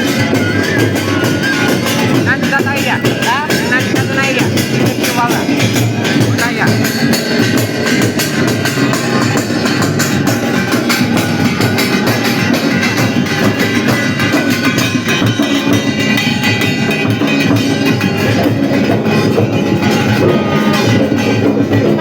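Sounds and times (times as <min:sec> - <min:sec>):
dance music with fast drum beat: 0:00.0 - 0:22.0.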